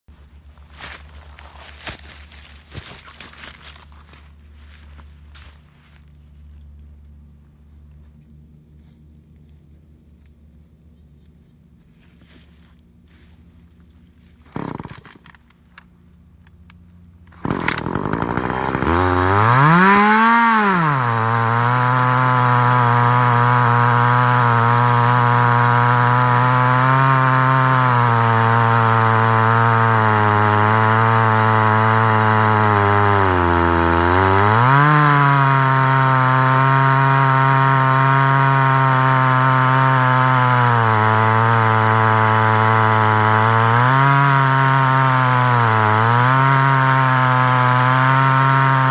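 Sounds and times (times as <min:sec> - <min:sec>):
chainsaw sawing through wood: 0:00.6 - 0:07.1, 0:12.0 - 0:15.7, 0:17.2 - 0:48.9.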